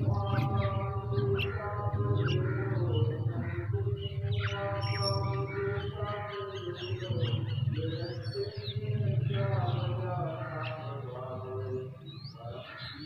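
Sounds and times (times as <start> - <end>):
background music with drone: 0.0 - 13.0
birds squawking and chirping: 0.0 - 13.0.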